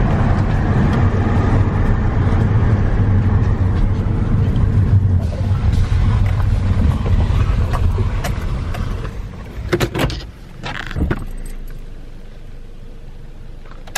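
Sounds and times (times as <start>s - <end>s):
car engine and tyre rumble: 0.0s - 13.9s.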